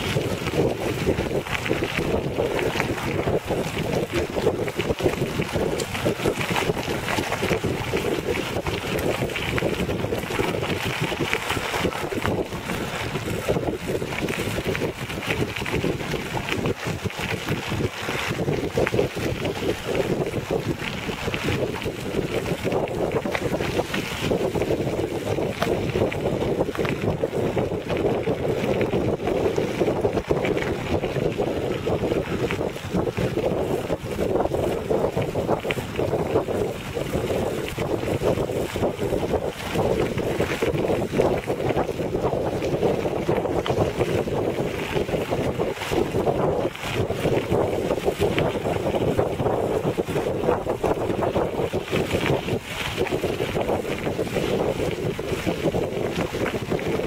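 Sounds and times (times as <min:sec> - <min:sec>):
bicycle tyres crunching on gravel: 0:00.0 - 0:57.0
wind buffeting microphone: 0:00.0 - 0:57.0.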